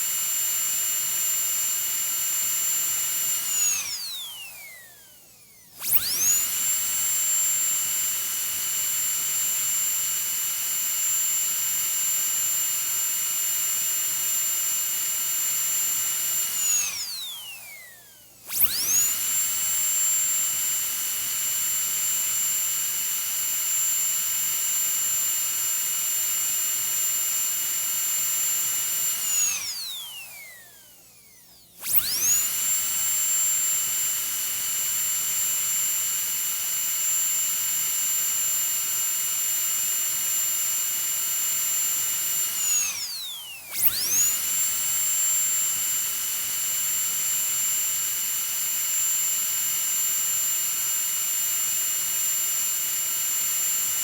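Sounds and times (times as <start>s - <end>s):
dentist's drill whining: 0.0s - 54.0s.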